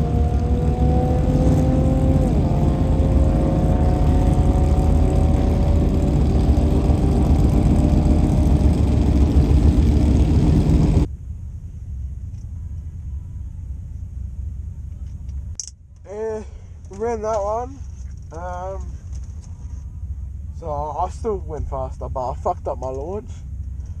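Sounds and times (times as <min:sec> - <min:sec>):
car engine at full throttle: 0:00.0 - 0:24.0
quiet engine rumble: 0:00.0 - 0:24.0.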